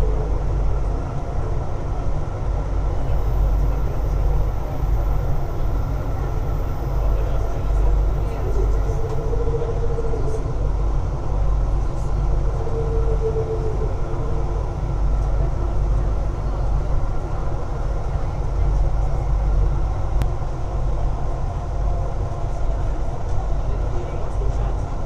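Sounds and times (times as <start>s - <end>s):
train running low rumble: 0.0s - 25.0s
train whine: 0.0s - 25.0s.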